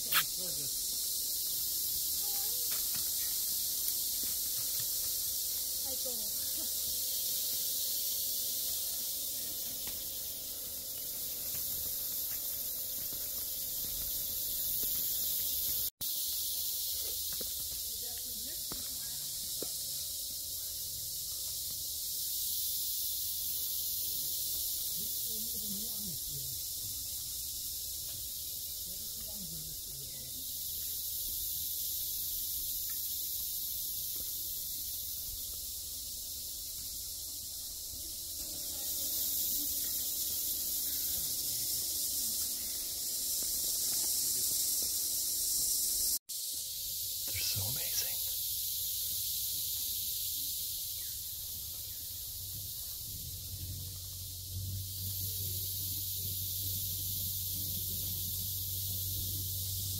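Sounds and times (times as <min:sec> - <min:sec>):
high-pitched hiss: 0:00.0 - 0:59.9
tropical insects buzzing: 0:00.0 - 0:59.9.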